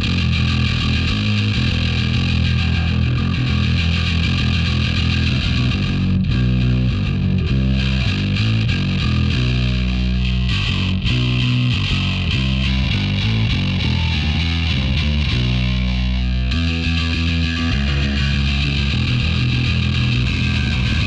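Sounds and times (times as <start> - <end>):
distorted electric bass riff: 0.0 - 21.0.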